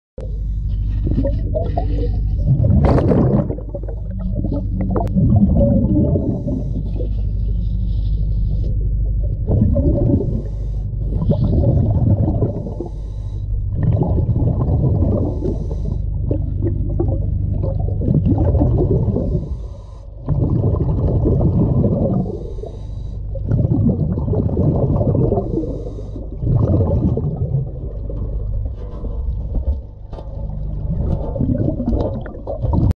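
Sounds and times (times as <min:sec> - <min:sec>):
steady low rumble: 0:00.2 - 0:32.9
bubbles gurgling underwater: 0:01.0 - 0:07.5, 0:09.0 - 0:32.9.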